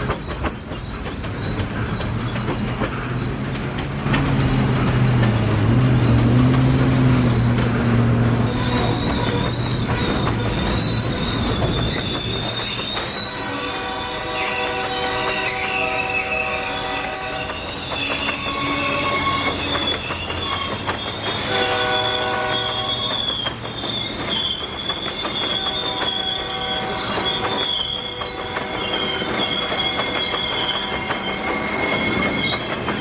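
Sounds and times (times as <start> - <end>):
train wheels squealing: 0.0 - 3.7, 4.3 - 33.0
diesel locomotive engine: 0.0 - 33.0.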